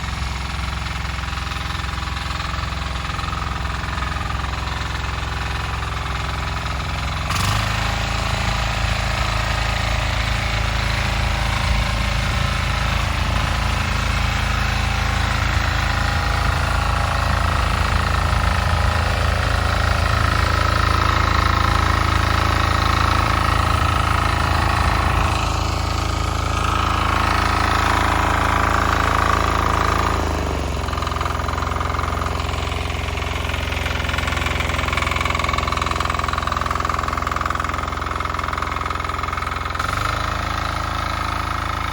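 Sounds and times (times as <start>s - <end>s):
diesel tractor engine tilling: 0.0s - 41.9s.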